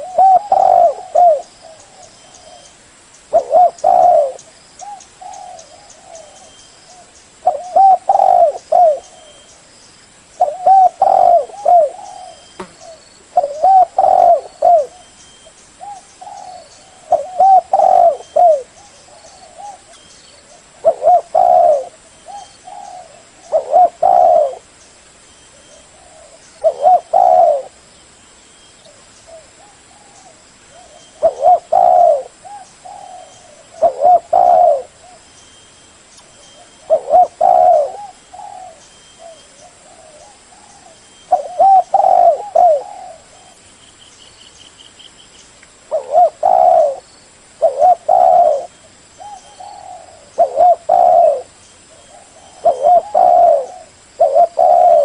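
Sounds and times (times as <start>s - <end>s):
dove cooing: 0.0s - 2.7s, 3.3s - 9.5s, 10.4s - 15.1s, 15.8s - 24.7s, 25.5s - 27.8s, 28.9s - 35.2s, 36.4s - 43.6s, 45.9s - 47.0s, 47.6s - 55.0s.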